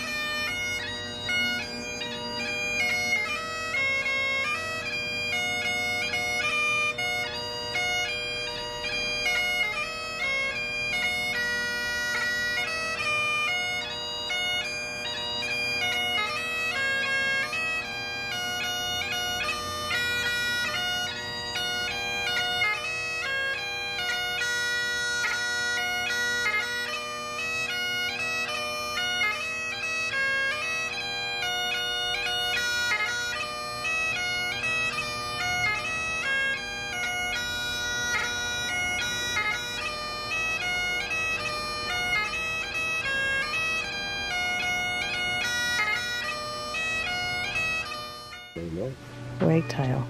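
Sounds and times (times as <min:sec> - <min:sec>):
bagpipe tune with drones: 0:00.0 - 0:50.0.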